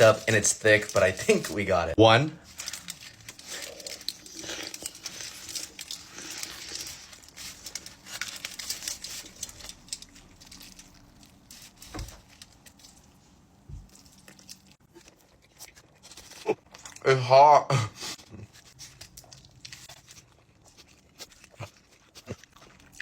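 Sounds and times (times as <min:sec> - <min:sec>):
chewing with full mouth: 0:02.5 - 0:17.1, 0:17.9 - 0:23.0.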